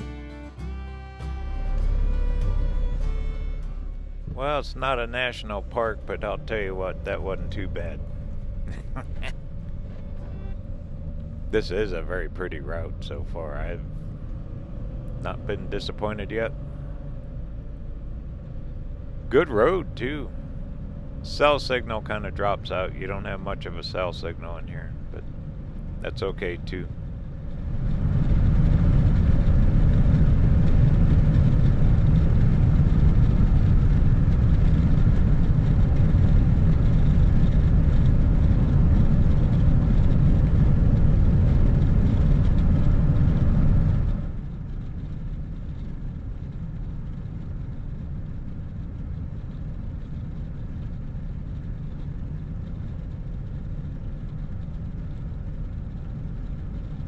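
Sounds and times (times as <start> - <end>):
vehicle interior road noise: 0.0 - 57.0.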